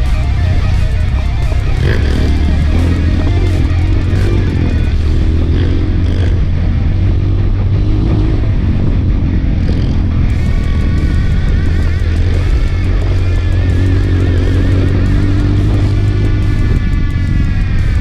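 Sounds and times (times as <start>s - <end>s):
background music: 0.0s - 18.0s
motorcycle engine running: 0.0s - 18.0s.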